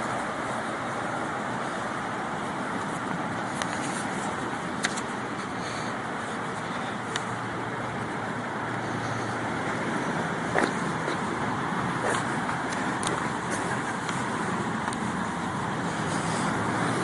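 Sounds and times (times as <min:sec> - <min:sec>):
cars driving along street: 0:00.0 - 0:17.0.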